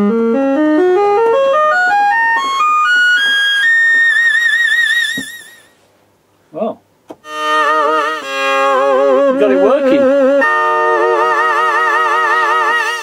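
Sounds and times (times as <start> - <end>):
synthesizer notes with vibrato: 0.0 - 5.8, 7.2 - 13.0.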